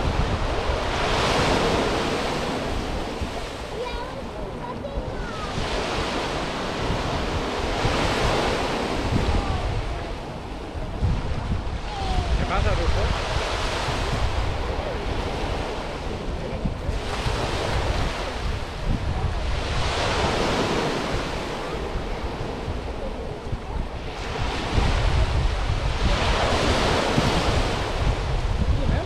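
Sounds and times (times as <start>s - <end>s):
sea waves breaking on beach: 0.0s - 29.0s
wind rumble on microphone: 0.0s - 29.0s.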